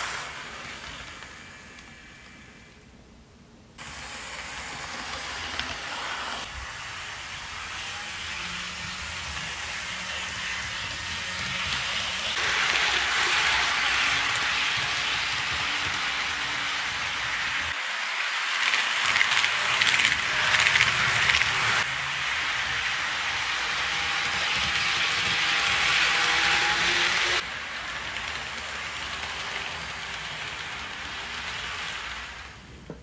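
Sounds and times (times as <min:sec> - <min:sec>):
model train wheels rattling on rail: 0:03.8 - 0:33.0.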